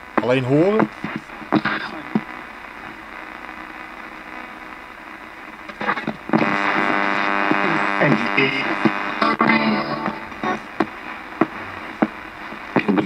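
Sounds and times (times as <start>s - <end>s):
choppy radio broadcast snatches: 0.0s - 13.0s
radio static and hum: 0.0s - 13.0s.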